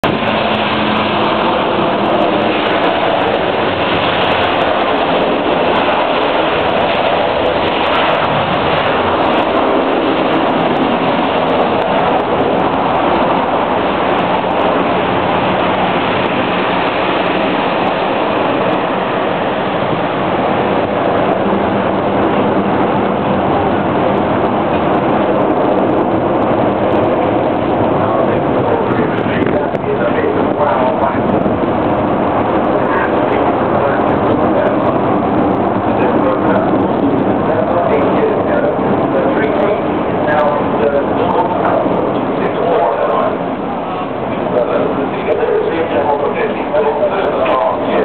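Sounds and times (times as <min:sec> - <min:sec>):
jet engines roaring on takeoff: 0:00.0 - 0:48.0.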